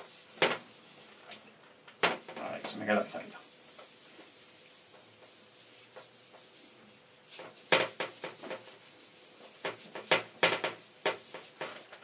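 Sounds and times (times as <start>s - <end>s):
rubbing strokes on whiteboard: 0.0s - 12.0s.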